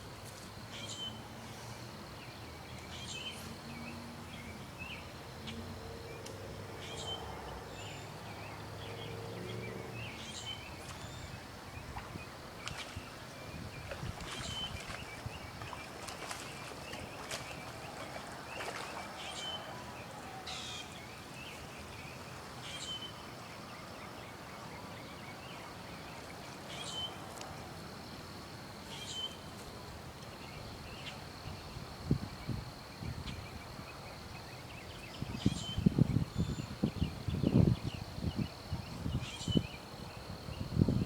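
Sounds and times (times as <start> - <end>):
high insect hum: 0.0 - 41.0.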